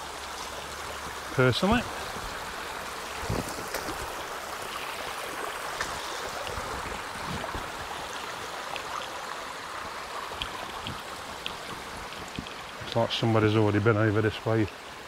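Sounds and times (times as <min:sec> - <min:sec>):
stream babbling over stones: 0:00.0 - 0:15.0.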